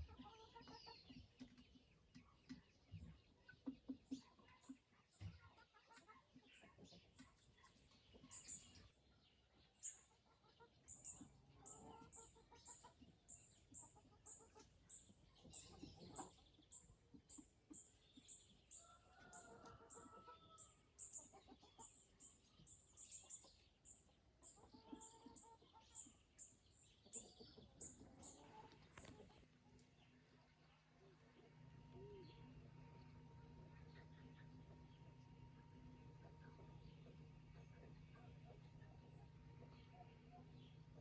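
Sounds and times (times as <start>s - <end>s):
chickens clucking softly: 0.0s - 41.0s.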